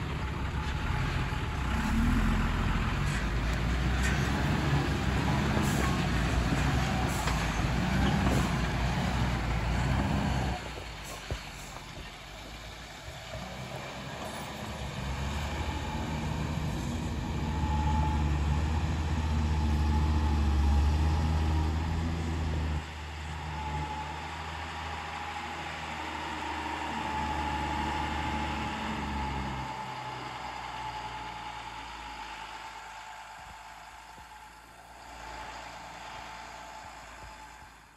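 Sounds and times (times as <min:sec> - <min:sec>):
diesel truck engine under load: 0:00.0 - 0:37.9.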